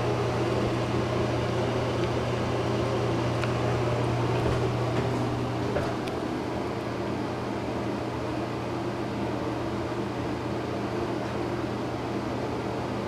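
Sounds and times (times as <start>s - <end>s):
exhaust fan air rush: 0.0s - 13.0s
fan low hum: 0.0s - 13.0s.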